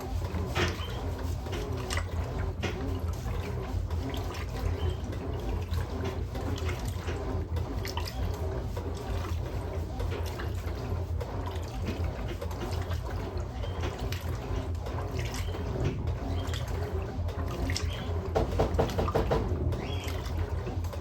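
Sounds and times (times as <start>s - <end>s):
washing machine motor hum: 0.0s - 21.0s
water sloshing in washing machine: 0.0s - 21.0s.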